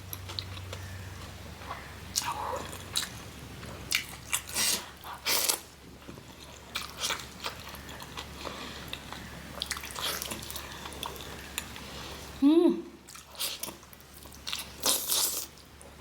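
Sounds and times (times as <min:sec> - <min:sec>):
person chewing food: 0:00.0 - 0:12.4, 0:13.0 - 0:16.0.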